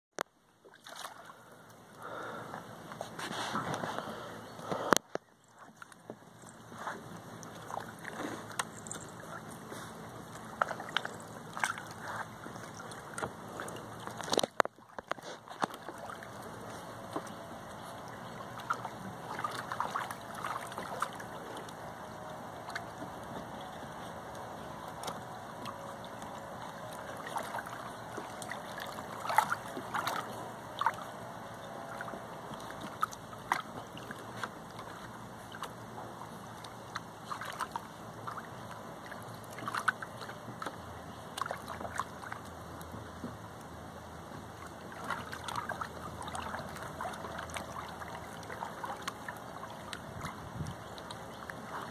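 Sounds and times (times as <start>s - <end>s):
water sloshing: 0.2s - 51.9s
small splashes: 0.6s - 51.9s.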